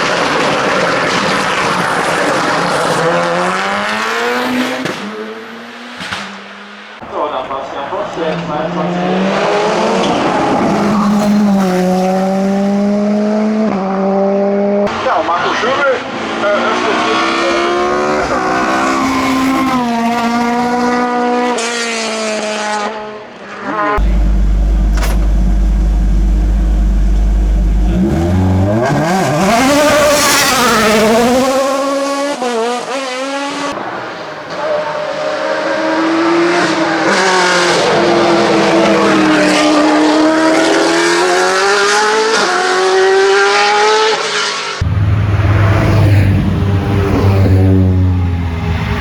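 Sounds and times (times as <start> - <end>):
race car engine at full throttle: 0.0 - 49.0.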